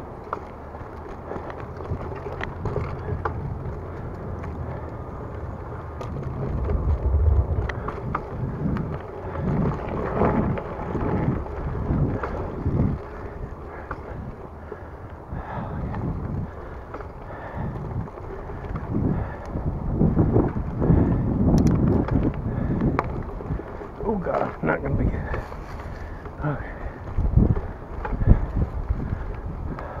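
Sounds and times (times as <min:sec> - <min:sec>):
bicycle clicks and rattles: 0:00.0 - 0:06.8, 0:07.7 - 0:30.0
wind buffeting microphone: 0:00.9 - 0:30.0.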